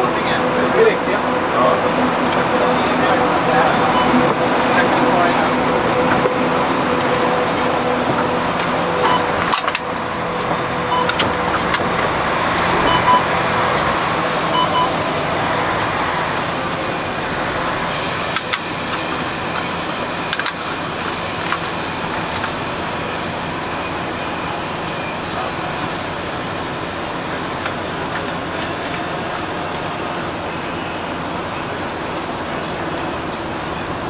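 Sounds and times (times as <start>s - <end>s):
bus engine and road noise: 0.0s - 34.0s.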